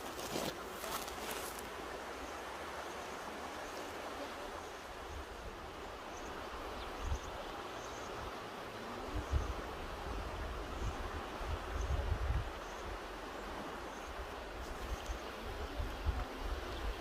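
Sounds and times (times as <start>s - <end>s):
mountain river rushing: 0.0s - 17.0s.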